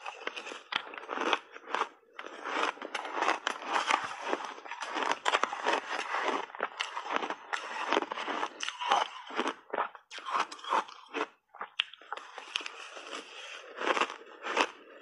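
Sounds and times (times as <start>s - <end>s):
crunching and chewing shaved ice: 0.0s - 15.0s.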